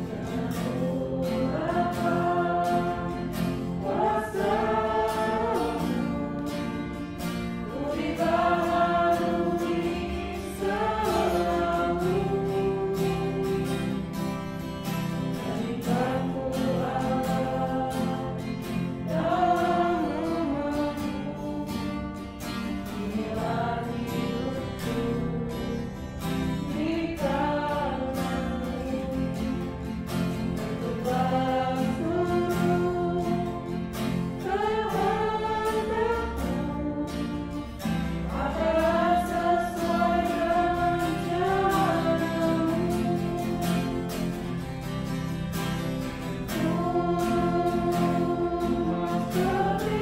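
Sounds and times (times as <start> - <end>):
group singing worship song: 0.0 - 50.0
strummed acoustic guitar: 0.0 - 50.0.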